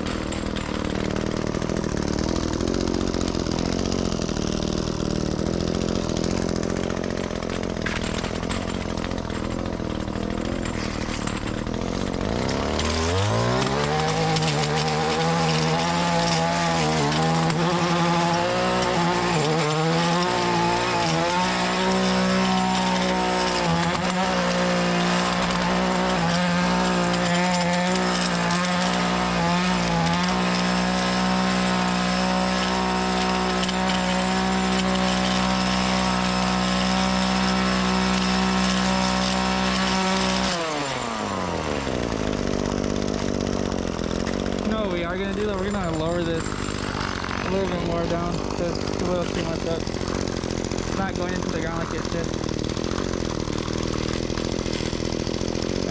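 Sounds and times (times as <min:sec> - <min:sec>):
two-stroke engine revving: 0:00.0 - 0:55.9.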